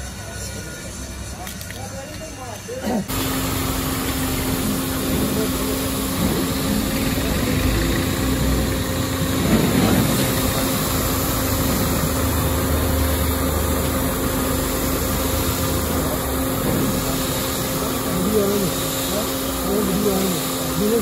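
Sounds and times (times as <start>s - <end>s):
washer motor running: 2.9s - 21.0s
pressure washer jet hissing: 3.1s - 21.0s.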